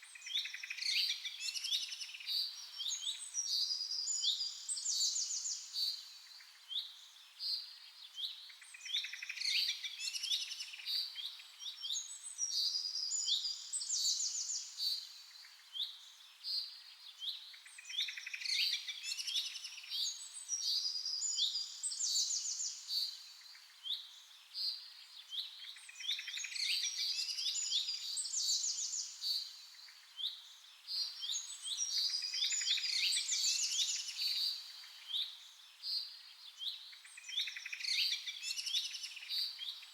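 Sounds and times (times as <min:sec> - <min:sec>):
songbirds chirping and trilling: 0:00.2 - 0:39.9.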